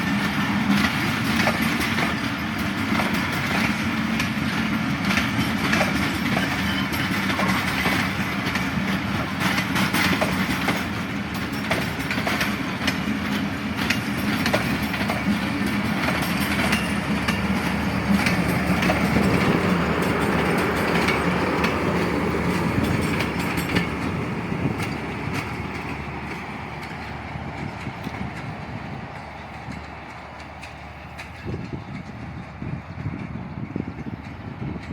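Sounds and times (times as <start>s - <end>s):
train wheels clicking over rail joints: 0.0s - 34.9s.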